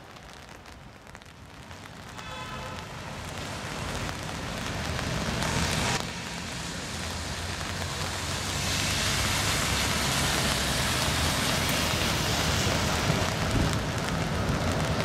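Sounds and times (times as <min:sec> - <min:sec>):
tyres hissing on wet road: 0:00.0 - 0:15.0.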